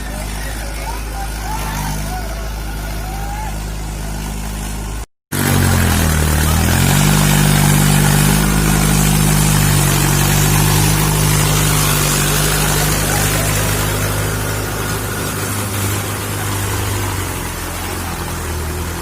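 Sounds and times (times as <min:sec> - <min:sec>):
tractor engine running hard: 0:00.0 - 0:19.0.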